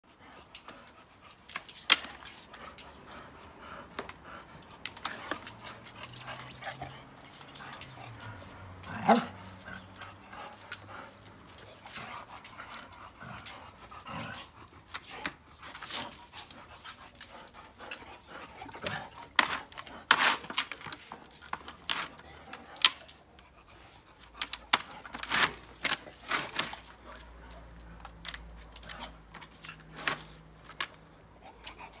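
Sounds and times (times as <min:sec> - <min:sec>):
dog panting: 0:00.1 - 0:32.0.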